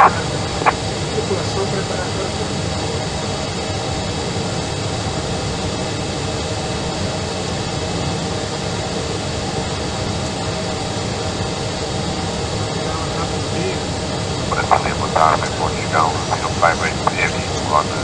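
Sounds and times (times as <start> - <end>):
jet engine and airflow noise: 0.0 - 18.0.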